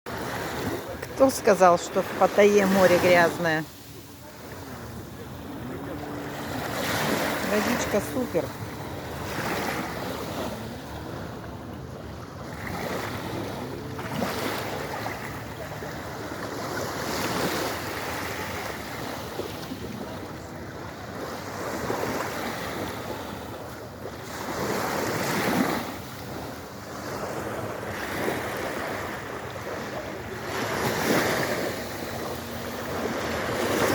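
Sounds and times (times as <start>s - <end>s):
sea waves washing in: 0.1s - 33.9s.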